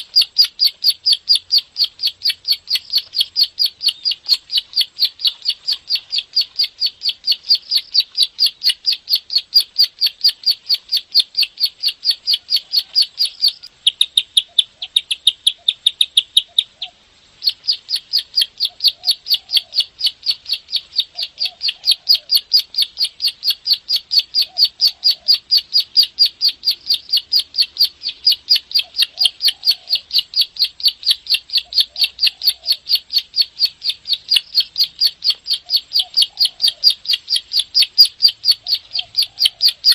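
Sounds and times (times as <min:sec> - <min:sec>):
bird singing sharp repeated notes: 0:00.0 - 0:39.9.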